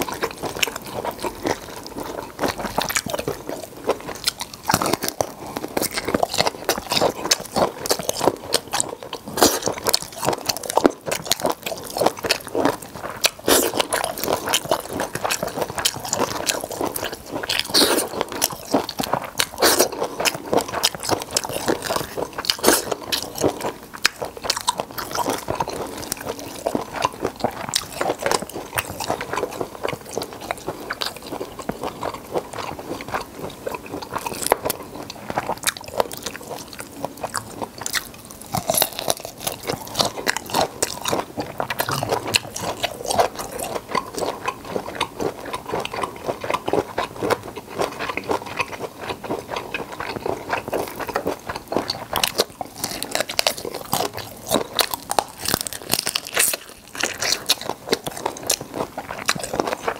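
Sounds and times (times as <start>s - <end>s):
chewing prawns with crunches: 0.0s - 59.9s.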